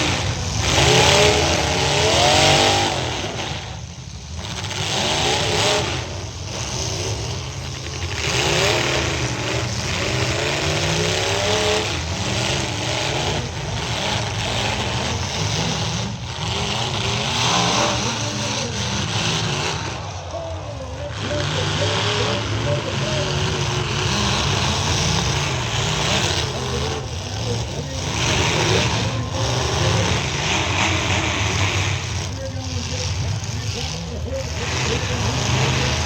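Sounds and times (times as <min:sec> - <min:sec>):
truck engines revving: 0:00.0 - 0:36.0.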